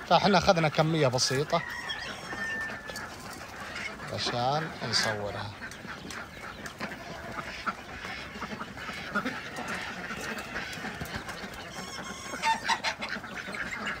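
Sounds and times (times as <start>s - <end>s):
duck bills dabbling: 0.0s - 14.0s
ducks quacking: 0.0s - 14.0s.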